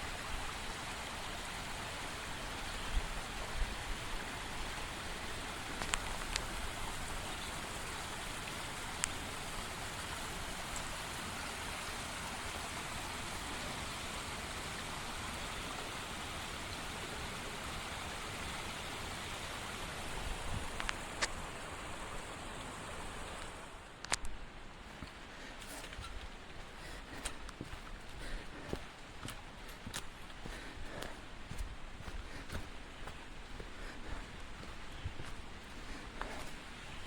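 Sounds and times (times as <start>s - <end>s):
brook flowing: 0.0s - 37.0s.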